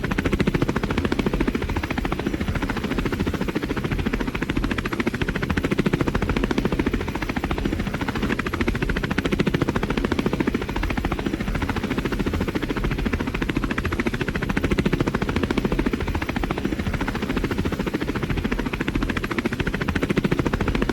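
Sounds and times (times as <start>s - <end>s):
helicopter rotor chopping: 0.0s - 20.9s.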